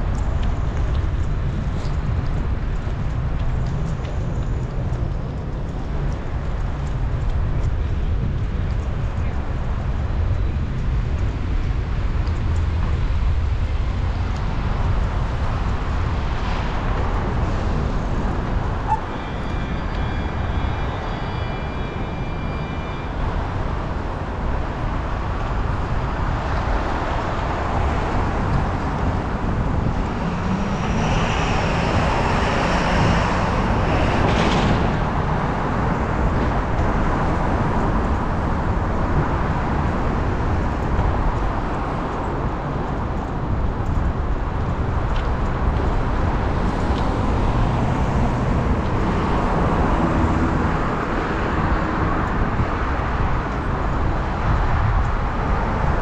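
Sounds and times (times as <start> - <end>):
cars going by: 0.0 - 56.0
wind rumble on microphone: 0.0 - 56.0.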